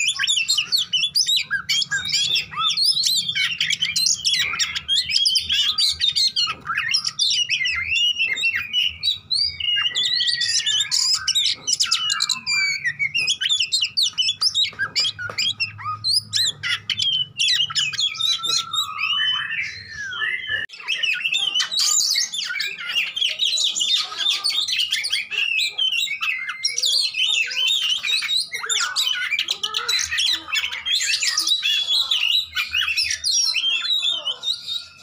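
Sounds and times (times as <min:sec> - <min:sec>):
bird singing: 0:00.0 - 0:35.0.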